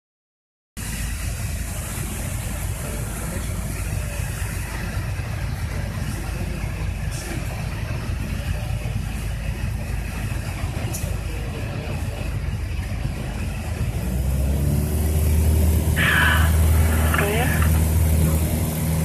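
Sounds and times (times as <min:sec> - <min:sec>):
propeller aircraft engine running: 0:00.8 - 0:19.0.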